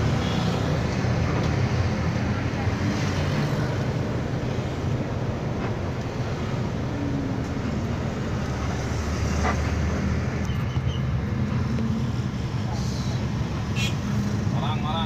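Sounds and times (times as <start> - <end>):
bus engine running: 0.0 - 15.0
road noise: 0.0 - 15.0.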